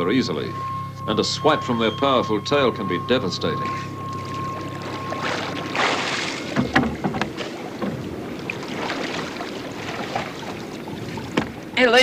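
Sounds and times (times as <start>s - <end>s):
water splashing and sloshing: 0.0s - 12.0s
wind and sea rushing: 0.0s - 12.0s
gear knocking against boat: 1.5s - 12.0s.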